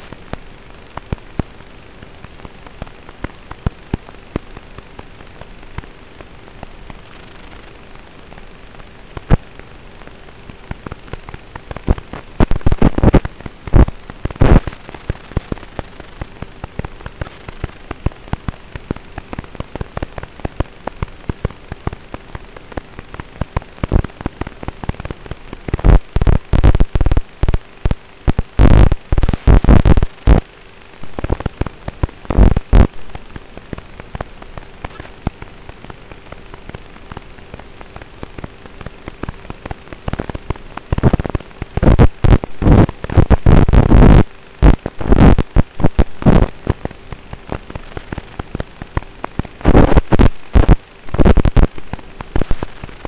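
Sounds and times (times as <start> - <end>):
faint hum: 0.0 - 53.0
loud crackling pops: 0.0 - 53.0
steady hiss: 0.0 - 53.0.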